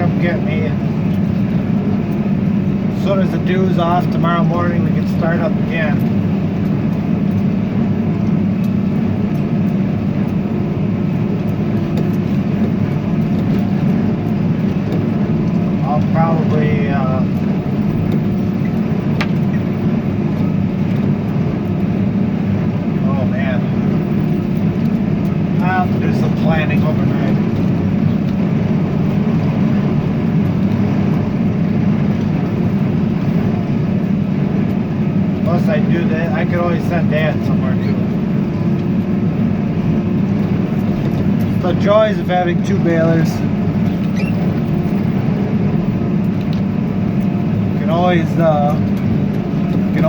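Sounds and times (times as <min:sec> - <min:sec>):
hay baler working: 0:00.0 - 0:38.6, 0:39.3 - 0:50.0
tractor engine running: 0:00.0 - 0:50.0.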